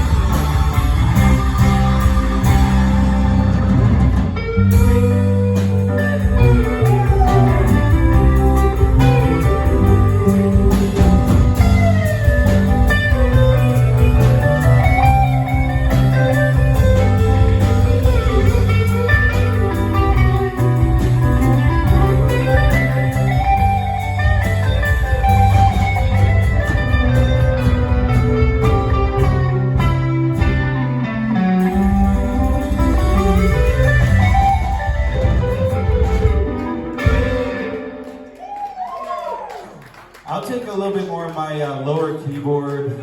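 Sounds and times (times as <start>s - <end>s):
live rock band playing: 0.0s - 38.8s
electric guitar lead: 0.0s - 39.0s.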